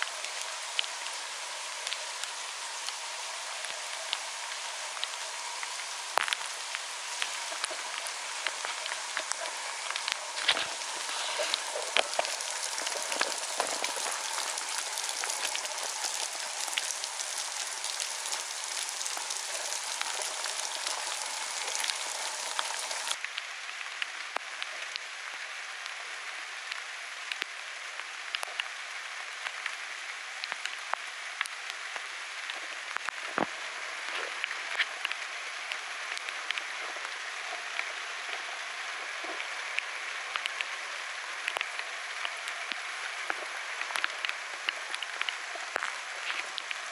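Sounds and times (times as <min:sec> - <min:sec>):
rain falling on grass: 0:00.0 - 0:46.9.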